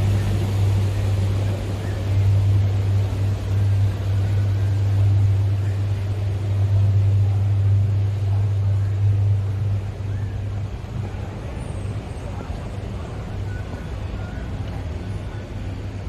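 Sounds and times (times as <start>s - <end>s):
low engine hum: 0.0s - 16.0s
outdoor background noise: 0.0s - 16.0s.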